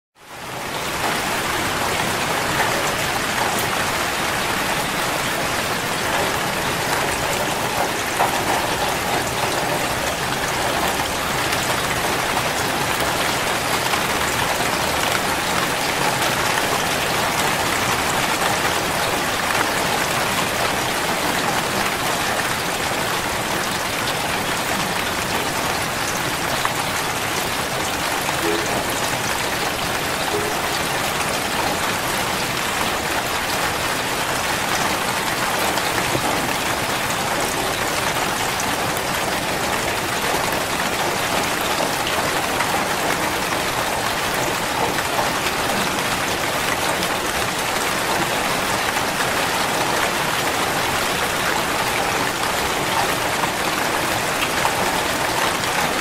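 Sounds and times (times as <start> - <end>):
steady rain falling: 0.2 - 56.0.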